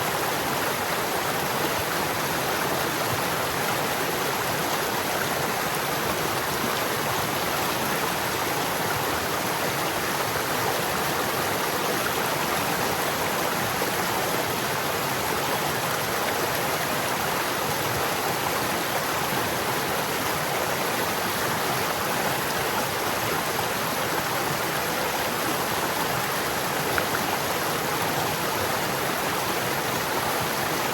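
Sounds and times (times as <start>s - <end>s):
stream water running over rocks: 0.0s - 30.9s.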